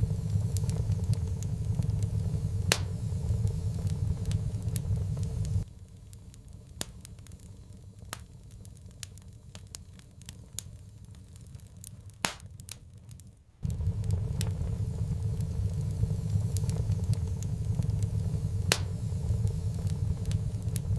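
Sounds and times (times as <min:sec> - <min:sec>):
low rumble of flames: 0:00.0 - 0:20.9
wood fire crackling and popping: 0:00.0 - 0:20.9.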